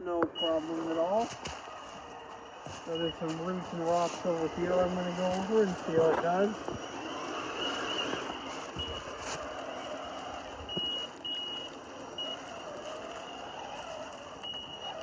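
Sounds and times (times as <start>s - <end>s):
high steady motor whine: 0.0s - 15.0s
lower motor whine: 0.0s - 15.0s.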